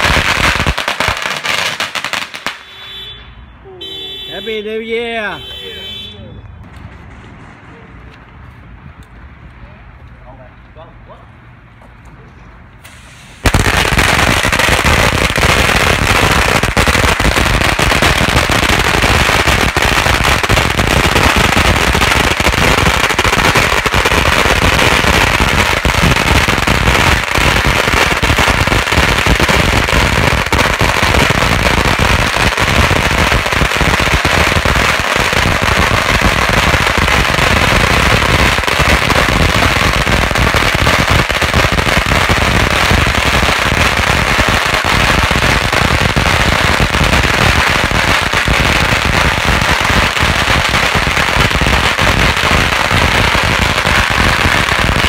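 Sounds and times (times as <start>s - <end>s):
firecrackers banging: 0.0s - 9.7s, 12.8s - 55.0s.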